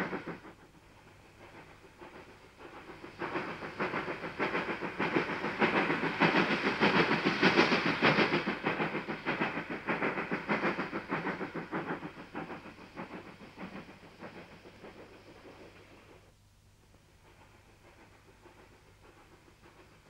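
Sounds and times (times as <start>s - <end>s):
steam locomotive chuffing: 0.0s - 20.0s.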